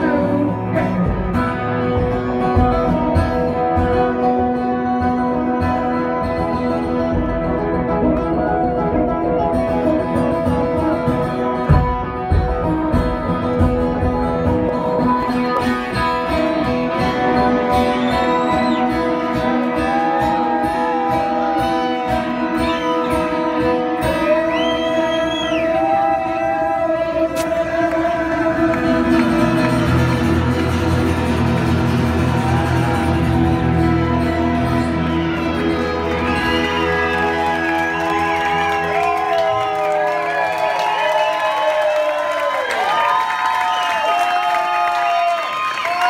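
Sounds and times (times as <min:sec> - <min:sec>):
live rock music: 0:00.0 - 0:40.0.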